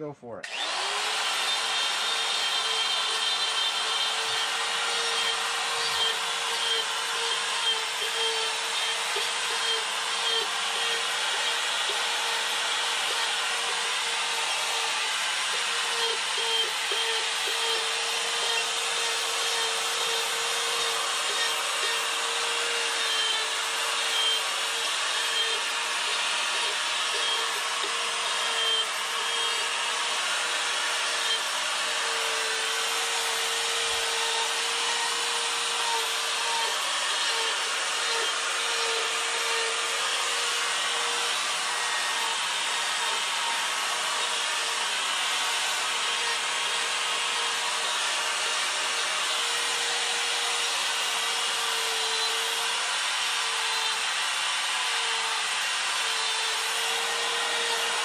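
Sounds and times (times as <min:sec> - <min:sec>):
die grinder motor whine: 0:00.4 - 0:58.0
burr rasping on wood: 0:00.5 - 0:54.0, 0:54.8 - 0:58.0.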